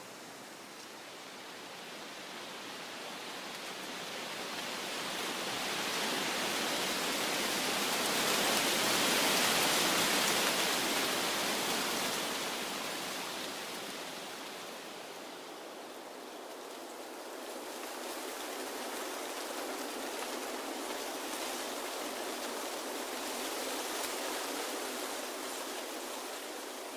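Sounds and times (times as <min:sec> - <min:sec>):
leaves rustling: 0:00.0 - 0:26.9.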